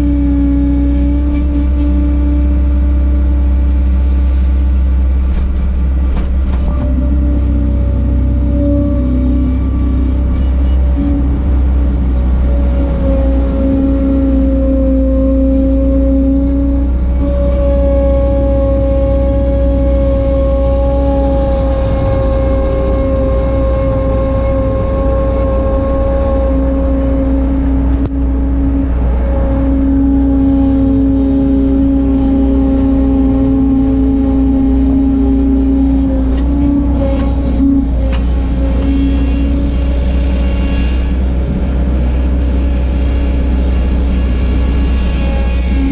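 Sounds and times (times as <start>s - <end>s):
skid steer engine running: 0.0s - 45.9s.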